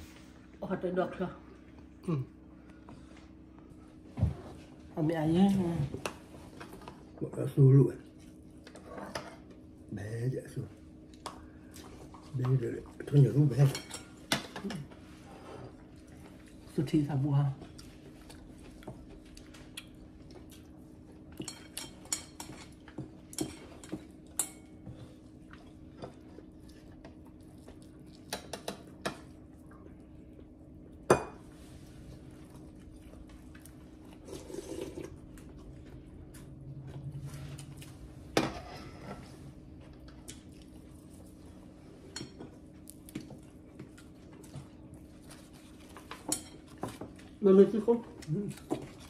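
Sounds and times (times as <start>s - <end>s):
low room hum: 0.0s - 49.0s.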